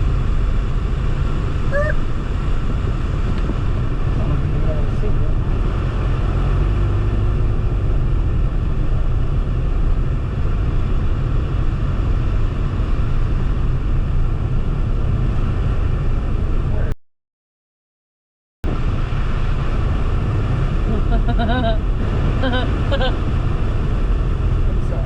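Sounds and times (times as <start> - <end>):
car cabin road and wind rumble: 0.0 - 17.0, 18.6 - 25.0.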